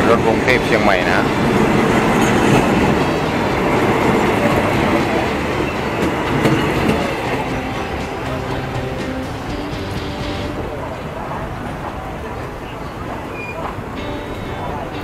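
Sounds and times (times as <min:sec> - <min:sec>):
moving train running noise: 0:00.0 - 0:15.0
passing train rumbling and clattering: 0:00.0 - 0:15.0.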